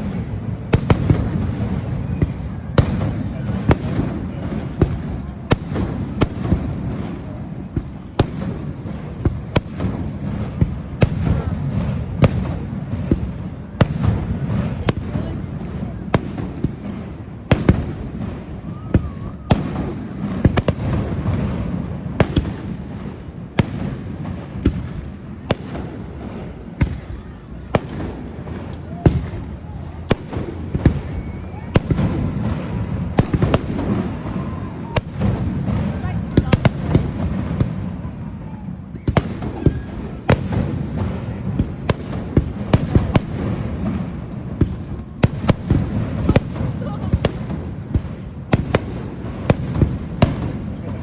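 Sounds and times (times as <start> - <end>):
fireworks bursting with sharp bangs: 0.0 - 51.0.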